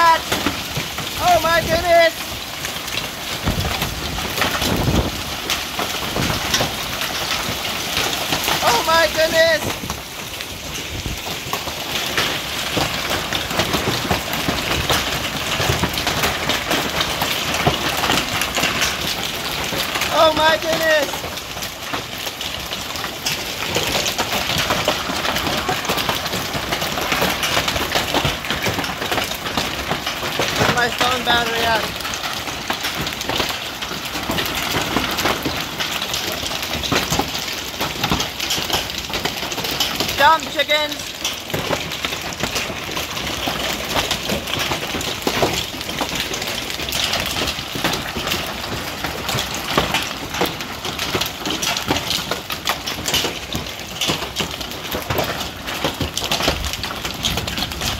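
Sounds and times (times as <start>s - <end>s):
hailstones knocking: 0.0s - 57.9s
heavy hail and rain hissing: 0.0s - 57.9s.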